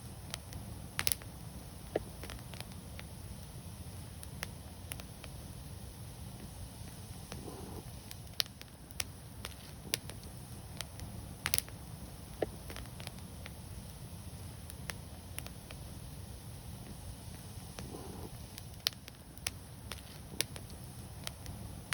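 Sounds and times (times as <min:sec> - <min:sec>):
low rumble of burning fire: 0:00.0 - 0:21.9
wood fire crackling: 0:00.0 - 0:21.9.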